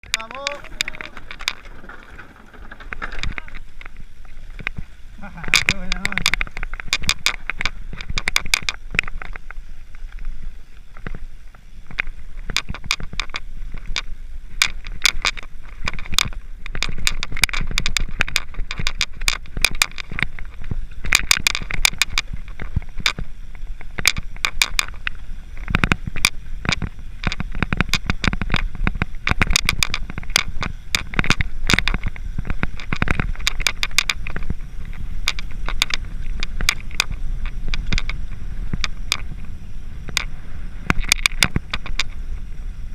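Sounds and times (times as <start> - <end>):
bike rattling over gravel: 0.0 - 42.9
wind on microphone: 0.0 - 42.9.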